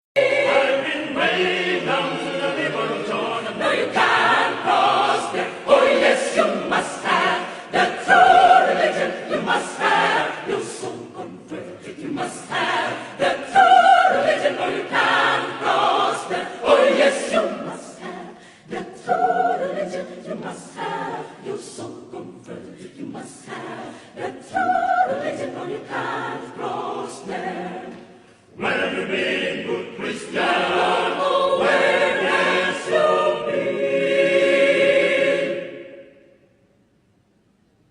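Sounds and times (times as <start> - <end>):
mixed choir singing: 0.2 - 36.6.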